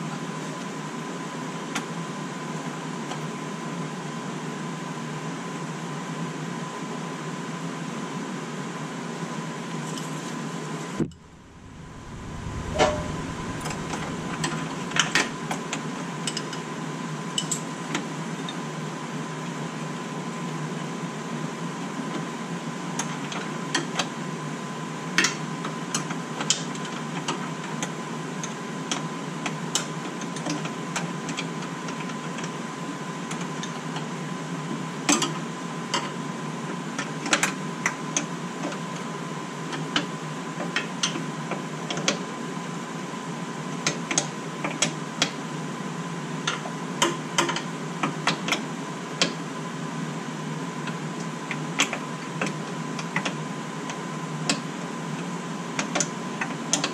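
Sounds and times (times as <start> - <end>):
steady hum with faint whine: 8.4 - 56.9.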